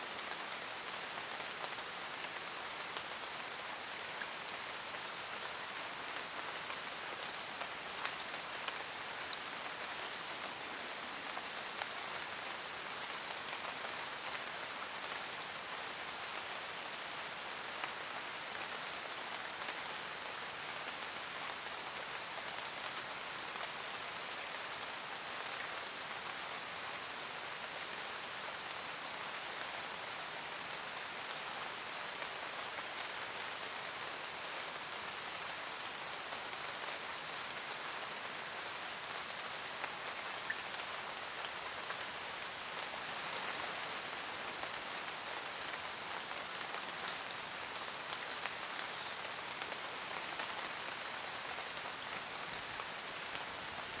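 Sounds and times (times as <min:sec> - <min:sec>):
steady rain hiss: 0:00.0 - 0:54.0
raindrops ticking on leaves: 0:00.1 - 0:54.0.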